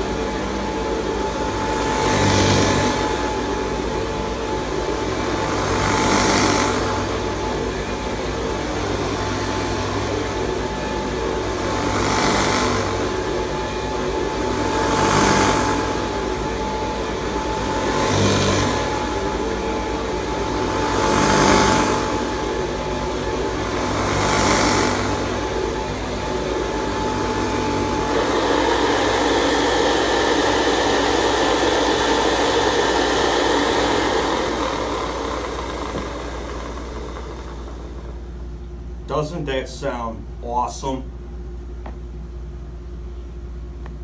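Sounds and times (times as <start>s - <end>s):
upright vacuum cleaner running: 0.0s - 39.4s.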